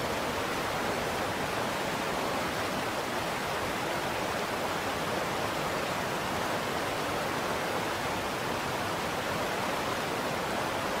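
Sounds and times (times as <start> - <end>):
creek water running over stones: 0.0 - 11.0.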